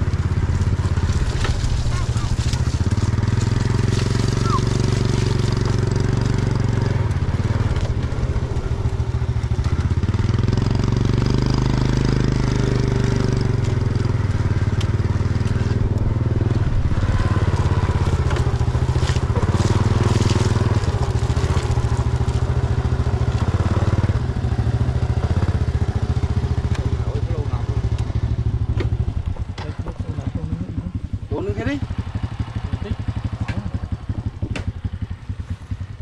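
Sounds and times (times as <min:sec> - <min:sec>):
motorbike engine running: 0:00.0 - 0:36.0
tyres crunching over muddy track: 0:00.0 - 0:36.0.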